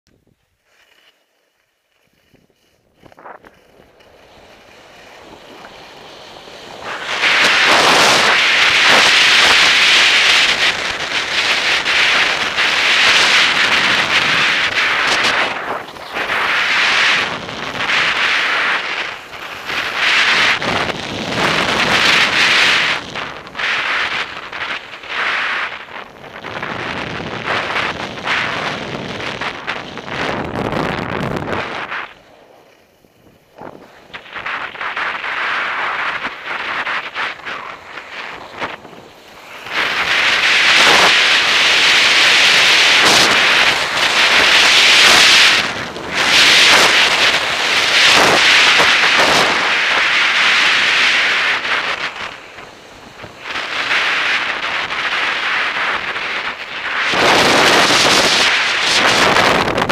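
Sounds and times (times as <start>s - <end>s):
skis hissing and scraping on snow: 0.3s - 59.9s
wind rushing over microphone: 2.2s - 59.9s.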